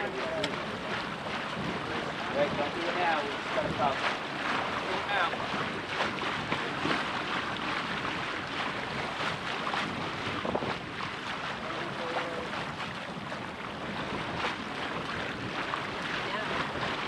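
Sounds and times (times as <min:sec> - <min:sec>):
short ticks and splashes: 0:00.0 - 0:17.0
wind and water rushing: 0:00.0 - 0:17.0
wind buffeting microphone: 0:00.0 - 0:17.0.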